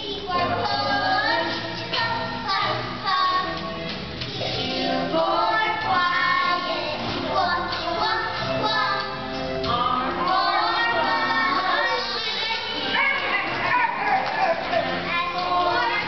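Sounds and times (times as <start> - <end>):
children singing: 0.0 - 16.0
musical accompaniment: 0.0 - 16.0.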